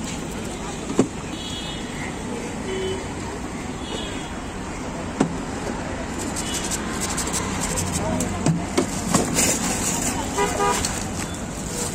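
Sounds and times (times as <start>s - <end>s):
road traffic: 0.0s - 11.9s.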